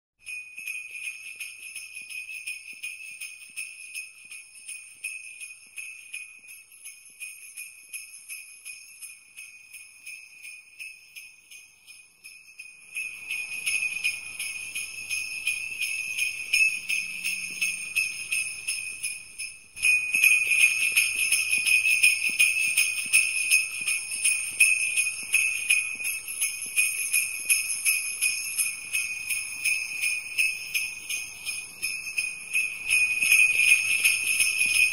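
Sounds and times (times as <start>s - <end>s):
sleigh bells jingling: 0.2s - 34.9s.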